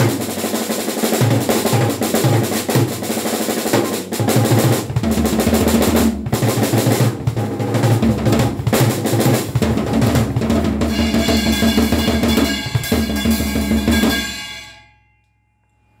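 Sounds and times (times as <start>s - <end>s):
rock drum fills: 0.0s - 14.7s.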